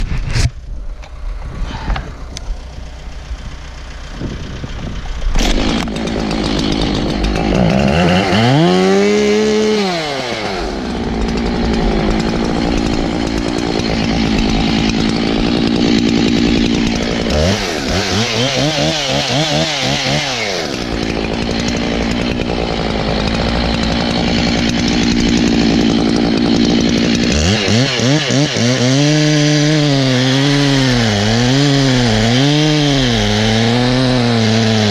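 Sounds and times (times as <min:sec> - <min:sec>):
chainsaw cutting wood: 0:01.1 - 0:34.9.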